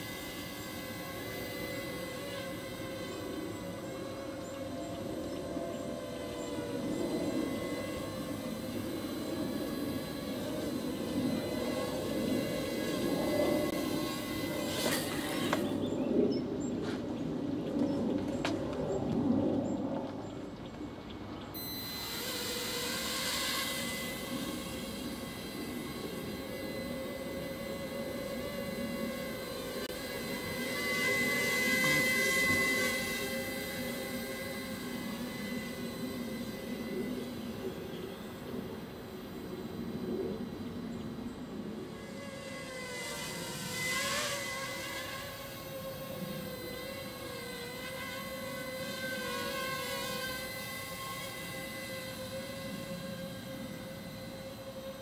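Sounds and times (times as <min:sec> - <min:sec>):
small drone high whine: 0:00.0 - 0:55.0.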